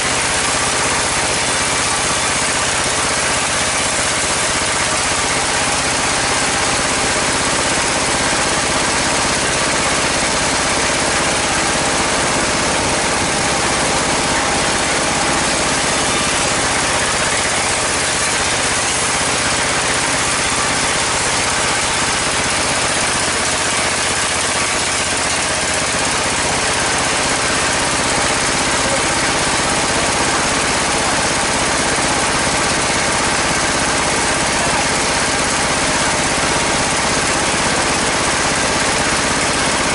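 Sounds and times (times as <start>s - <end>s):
band saw and engine running: 0.0s - 39.9s.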